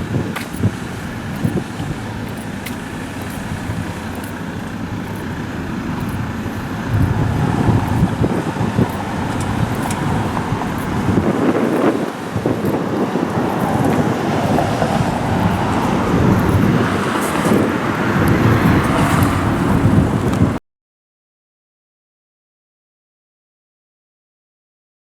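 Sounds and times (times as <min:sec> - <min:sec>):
road traffic rumble: 0:00.0 - 0:20.6
vehicle passing close: 0:00.0 - 0:20.6.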